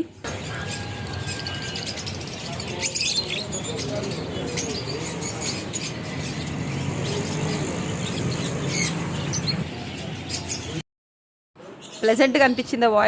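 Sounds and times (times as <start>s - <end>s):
caged birds chirping and squawking: 0.0s - 10.8s, 11.6s - 13.0s.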